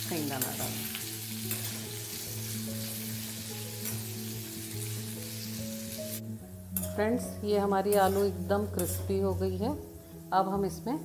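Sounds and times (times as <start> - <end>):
potatoes sizzling in hot fat: 0.0 - 11.0
soft background music: 0.0 - 11.0.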